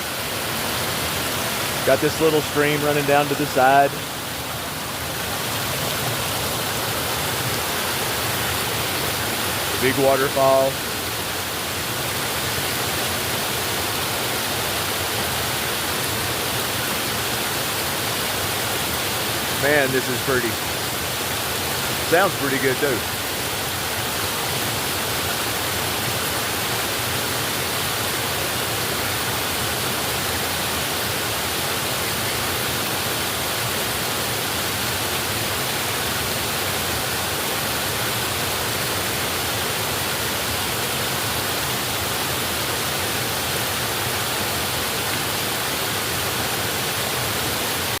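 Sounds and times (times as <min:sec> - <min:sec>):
waterfall roaring: 0:00.0 - 0:48.0.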